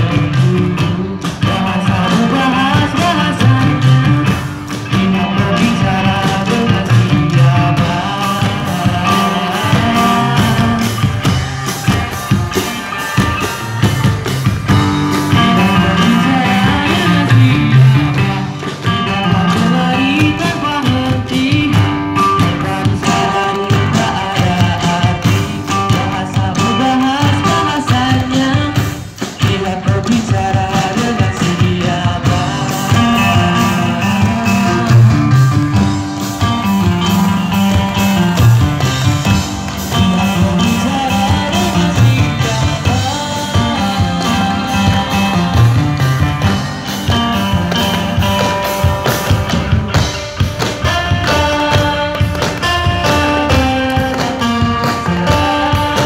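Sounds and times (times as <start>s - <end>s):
band playing: 0.0s - 56.0s
drumming on paint buckets: 0.0s - 56.0s.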